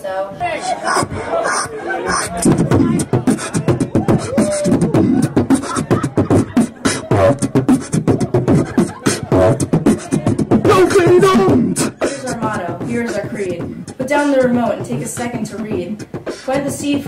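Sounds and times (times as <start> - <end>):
man beatboxing: 0.8 - 17.0.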